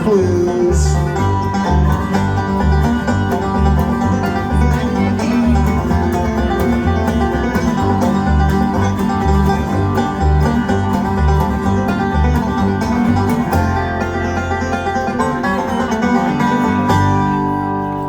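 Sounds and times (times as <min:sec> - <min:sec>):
bouncing bass line: 0:00.0 - 0:17.8
banjo picking: 0:00.0 - 0:18.0
strummed guitar: 0:00.0 - 0:18.0.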